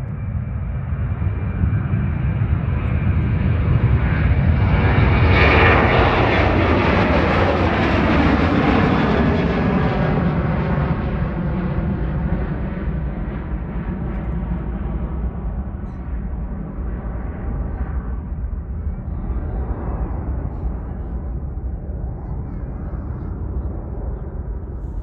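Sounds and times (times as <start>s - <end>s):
jet airliner passing: 0.0s - 25.0s.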